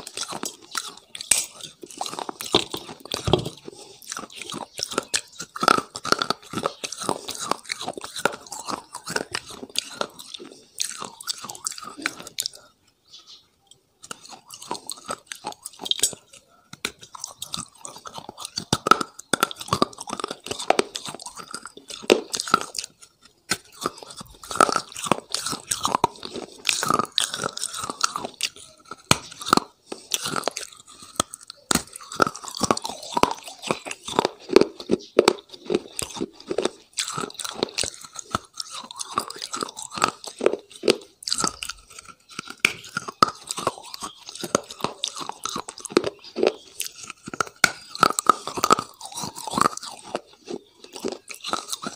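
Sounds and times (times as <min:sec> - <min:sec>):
crunchy food chewing: 0:00.0 - 0:51.9
wet mouth sounds: 0:00.0 - 0:51.9.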